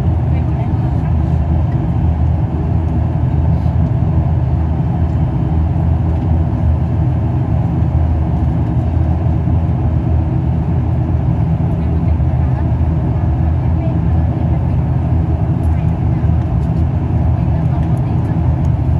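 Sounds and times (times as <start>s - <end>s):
jet engines rumbling in cabin: 0.0s - 18.9s.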